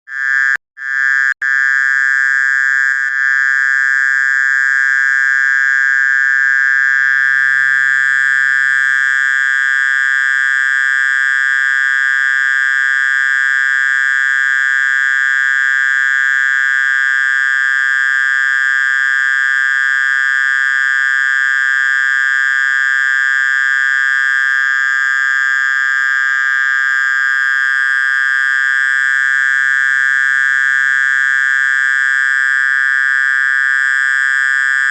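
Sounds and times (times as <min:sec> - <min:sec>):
mole cricket buzzing trill: 0:00.0 - 0:34.9.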